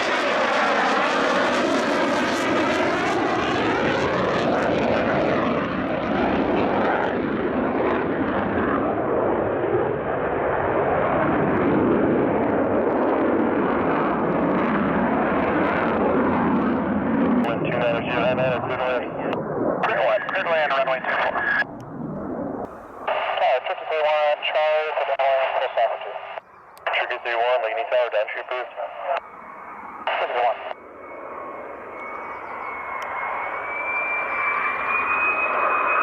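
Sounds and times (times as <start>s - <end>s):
fighter jet roaring in flight: 0.0s - 36.0s.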